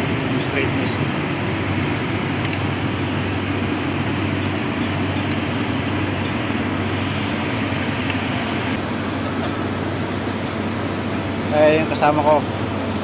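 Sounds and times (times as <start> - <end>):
shaft machining rig running: 0.0 - 13.0.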